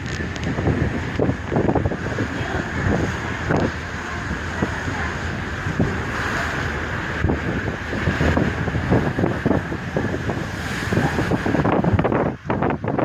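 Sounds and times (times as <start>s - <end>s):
rough sea rushing: 0.0s - 13.0s
wind buffeting microphone: 0.0s - 13.0s.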